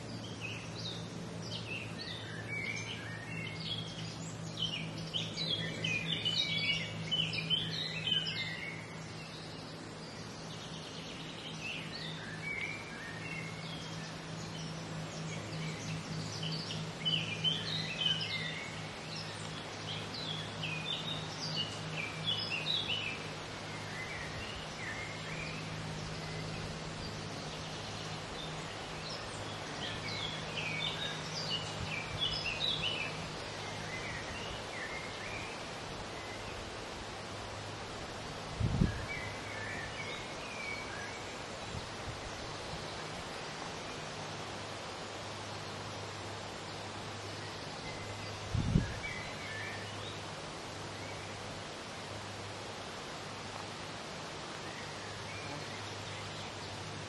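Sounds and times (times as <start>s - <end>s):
songbirds singing: 0.0s - 57.0s
steady low hum: 0.0s - 57.0s.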